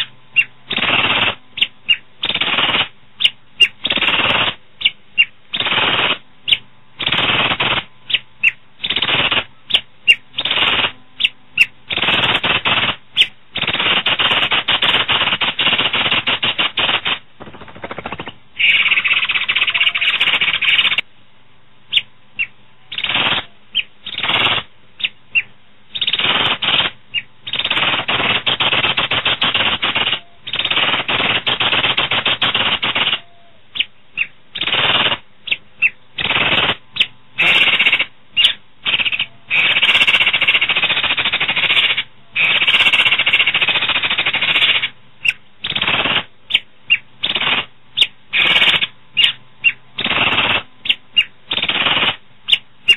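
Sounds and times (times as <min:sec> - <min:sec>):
starling sharp calls: 0:00.0 - 0:21.0, 0:21.9 - 0:52.9.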